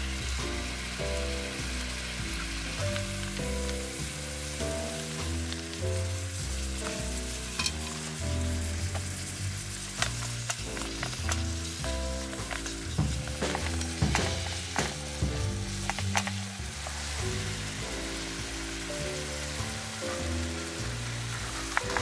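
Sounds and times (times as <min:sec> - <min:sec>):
food sizzling in a frying pan: 0:00.0 - 0:22.0
soft melody: 0:00.0 - 0:22.0.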